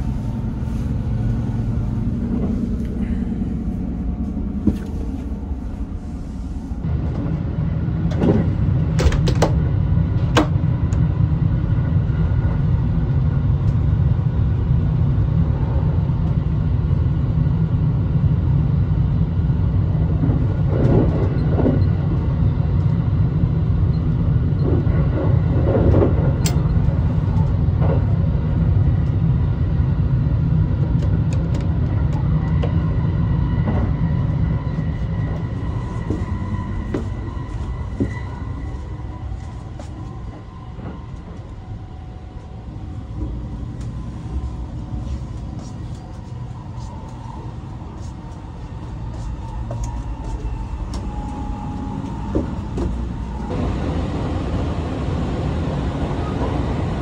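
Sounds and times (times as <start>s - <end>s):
train running low rumble: 0.0s - 57.0s.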